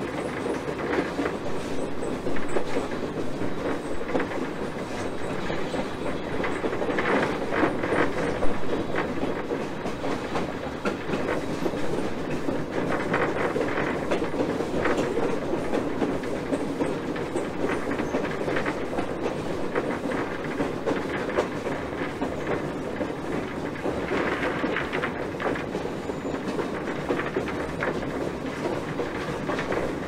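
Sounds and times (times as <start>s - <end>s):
locomotive wheels rumbling and rattling: 0.0s - 30.0s
wheel clicks and clacks: 0.0s - 30.0s.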